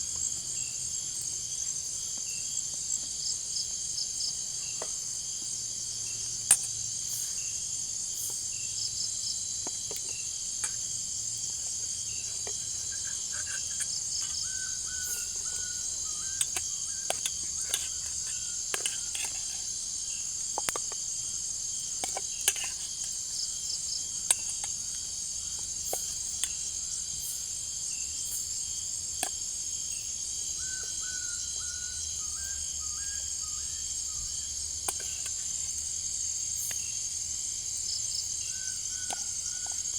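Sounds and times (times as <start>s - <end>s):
crickets and insects chirping: 0.0s - 39.9s.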